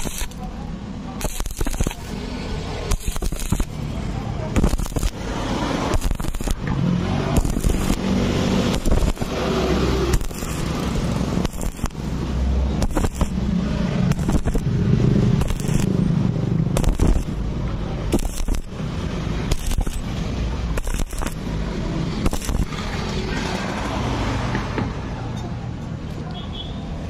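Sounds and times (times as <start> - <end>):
welding arc crackling: 0.0 - 24.2.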